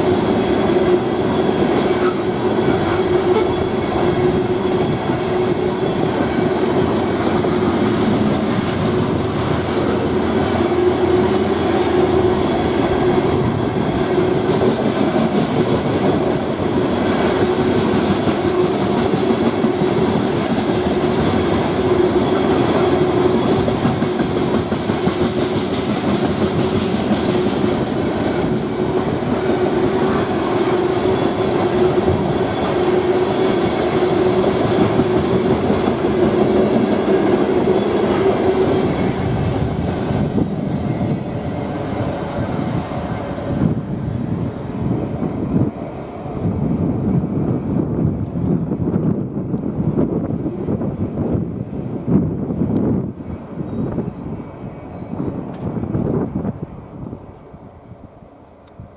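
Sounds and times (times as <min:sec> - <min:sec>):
freight train wheels rumbling on rail: 0:00.0 - 0:58.9.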